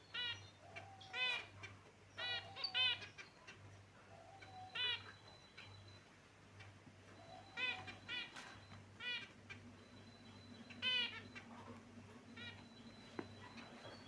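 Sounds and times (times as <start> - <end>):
faint steady hum: 0.0 - 14.0
finches giving short nasal calls: 0.1 - 3.7, 4.4 - 5.9, 7.2 - 14.0.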